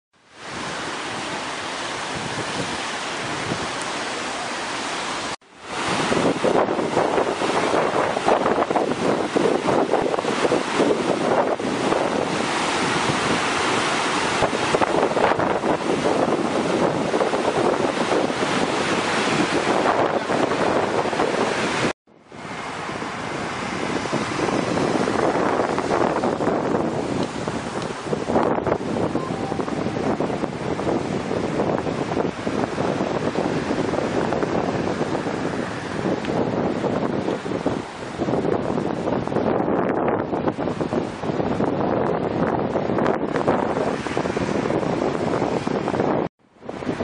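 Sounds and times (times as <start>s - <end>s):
rushing floodwater: 0.2s - 47.0s
wind on microphone: 0.3s - 47.0s.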